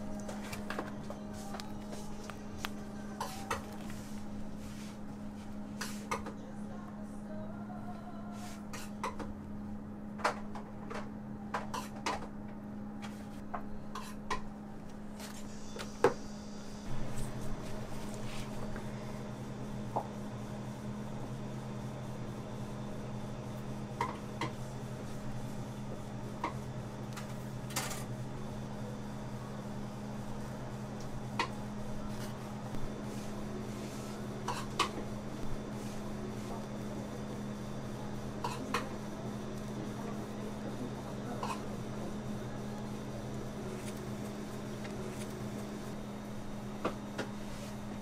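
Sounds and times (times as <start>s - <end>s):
second lower hum: 0.0s - 48.0s
steady low hum: 0.0s - 48.0s.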